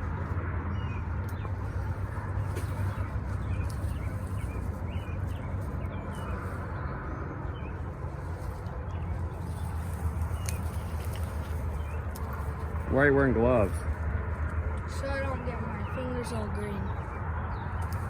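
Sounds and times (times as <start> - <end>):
low mechanical hum: 0.0 - 18.0
small birds chirping: 0.0 - 18.0.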